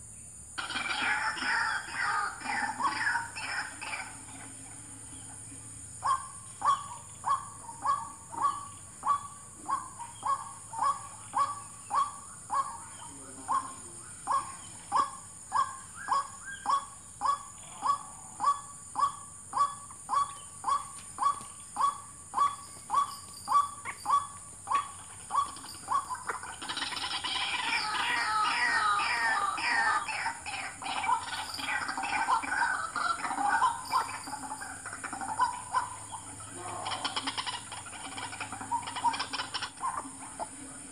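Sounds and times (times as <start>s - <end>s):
jumble of higher bird calls: 0.6s - 5.4s, 6.0s - 40.9s
croaking bird lure call: 0.6s - 40.9s.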